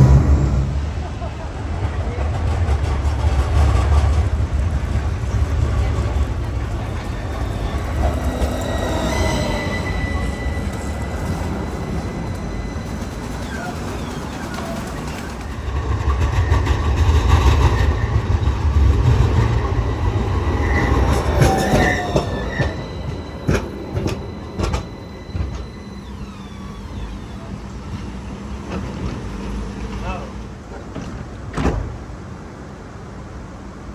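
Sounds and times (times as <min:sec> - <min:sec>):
tram rumbling on rails: 0:00.0 - 0:33.9
wheels squealing: 0:03.0 - 0:31.5.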